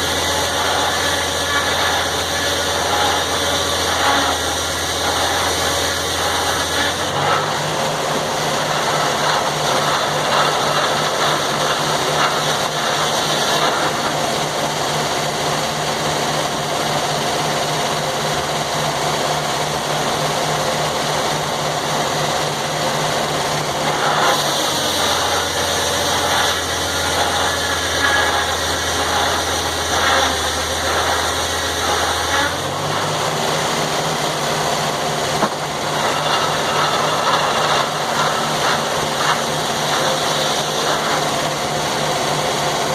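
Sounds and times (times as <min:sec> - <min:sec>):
sawmill engine running: 0:00.0 - 0:42.9.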